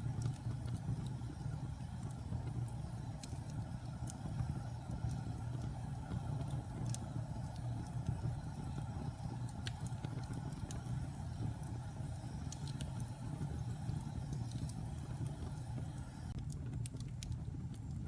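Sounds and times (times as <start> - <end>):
burning wood crackling and popping: 0.0 - 18.0
fire flames rumbling: 0.0 - 18.0.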